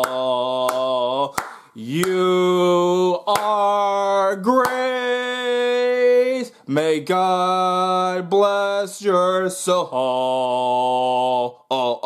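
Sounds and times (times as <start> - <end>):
man singing long notes: 0.0 - 12.0.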